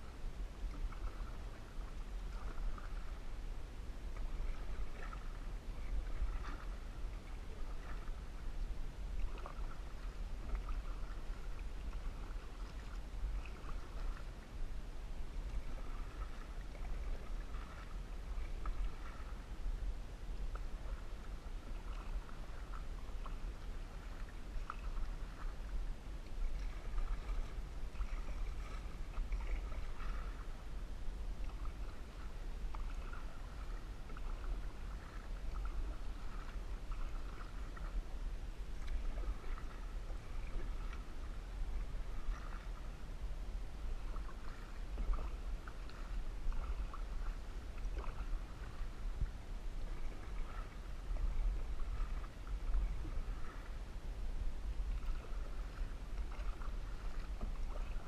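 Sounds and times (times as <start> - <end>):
paddle swishing and dripping in water: 0.0 - 58.0
steady low rumble: 0.0 - 58.0.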